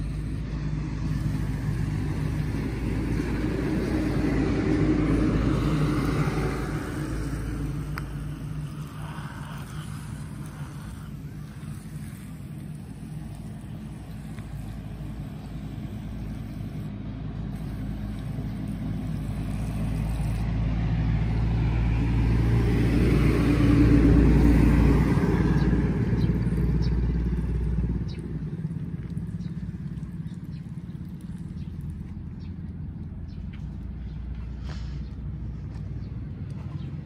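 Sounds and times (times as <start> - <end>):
vehicle engine passing by: 0.0 - 37.0.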